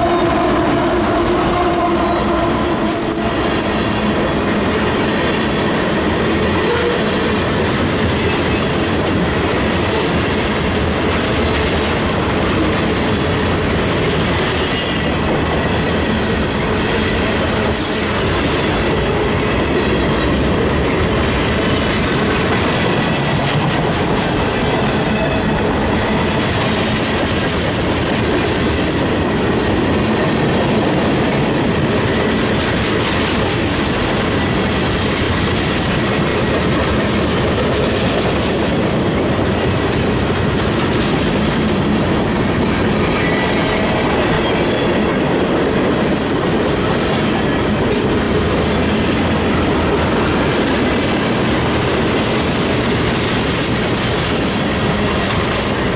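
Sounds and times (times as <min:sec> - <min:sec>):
train wheels clattering over rail joints: 0:02.8 - 0:55.9.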